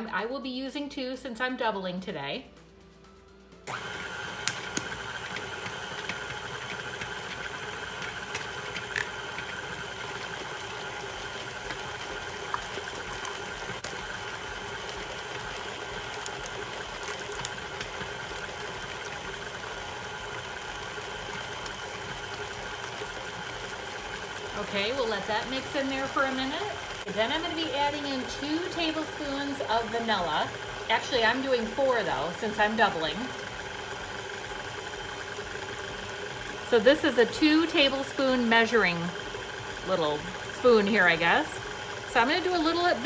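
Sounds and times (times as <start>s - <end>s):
stand mixer running: 3.6s - 43.0s.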